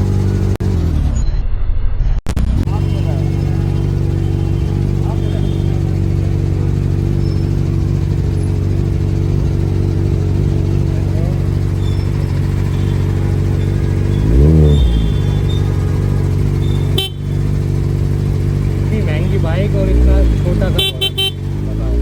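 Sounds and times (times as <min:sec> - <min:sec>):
motorcycle idling: 0:00.0 - 0:00.9, 0:02.6 - 0:22.0
motorcycle revving: 0:00.0 - 0:01.2, 0:02.4 - 0:22.0.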